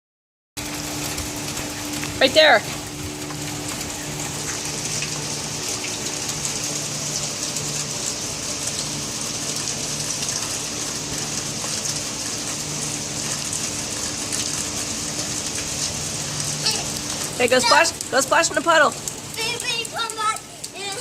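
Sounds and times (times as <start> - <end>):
steady rain falling: 0.6 - 21.0.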